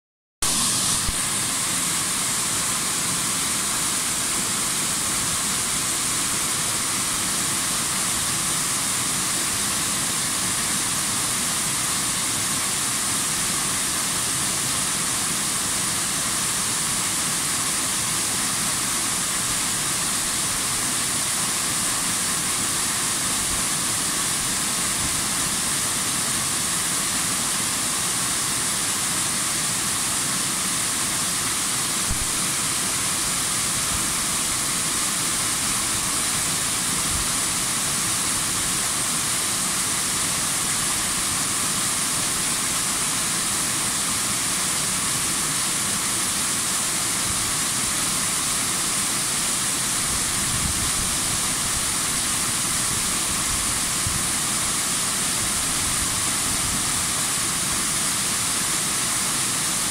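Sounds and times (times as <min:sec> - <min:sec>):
waterfall rushing: 0:00.4 - 0:59.9.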